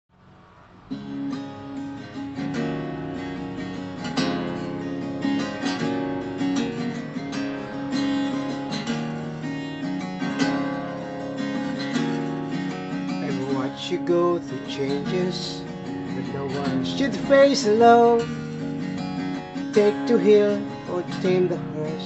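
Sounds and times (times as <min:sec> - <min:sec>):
acoustic guitar strummed and picked: 0:00.8 - 0:22.0.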